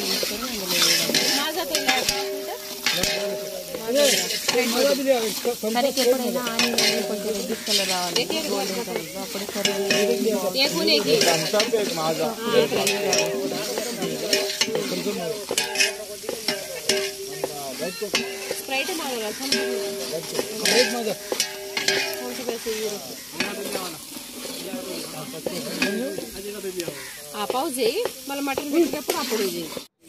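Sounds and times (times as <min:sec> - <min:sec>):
curry sizzling in a pot: 0:00.0 - 0:30.0
ladle stirring and scraping: 0:00.0 - 0:30.0.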